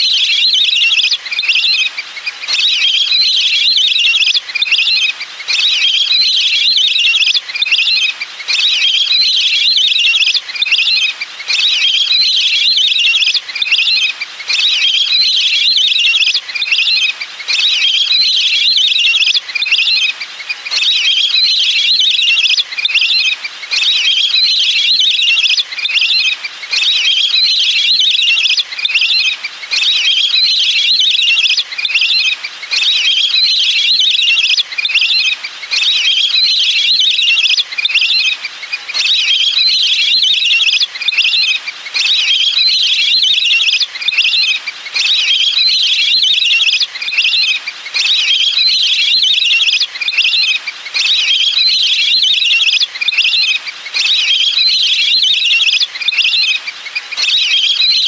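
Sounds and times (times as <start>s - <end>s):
ducks whistling chatter: 0.0s - 58.0s.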